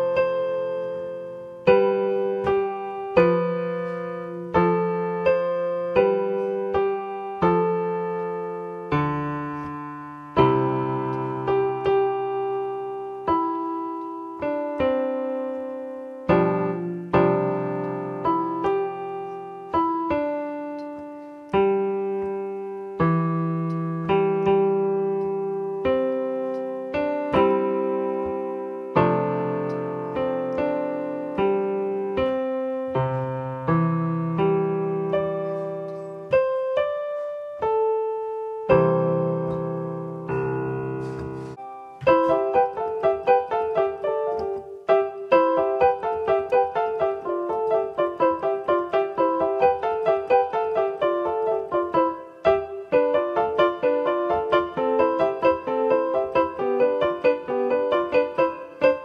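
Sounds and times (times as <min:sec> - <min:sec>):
electronic keyboard piano chords: 0:00.0 - 0:59.0.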